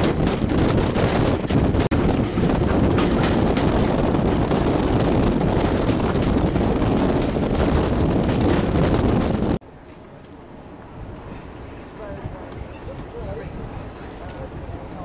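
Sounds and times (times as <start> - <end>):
wind buffeting microphone: 0.0 - 9.6, 10.6 - 15.0
train rumbling on track: 0.0 - 15.0.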